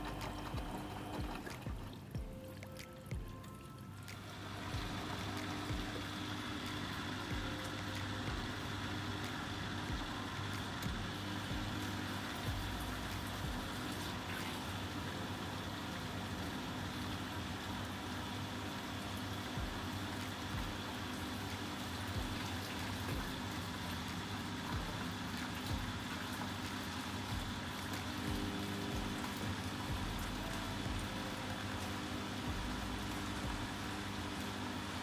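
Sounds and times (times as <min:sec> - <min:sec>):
washing machine hum: 0:00.0 - 0:35.0.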